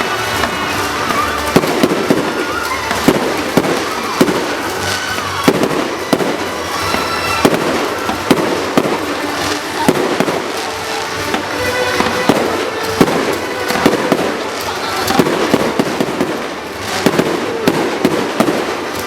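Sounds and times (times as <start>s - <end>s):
firework shells banging: 0.0s - 19.0s
fireworks crackling: 0.0s - 19.0s.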